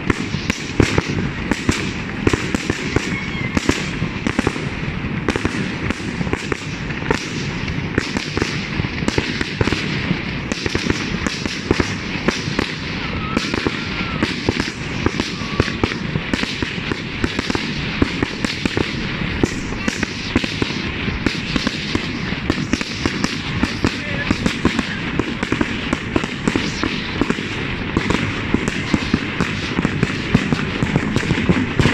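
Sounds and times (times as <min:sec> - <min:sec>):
fireworks bangs and crackling: 0:00.0 - 0:31.9.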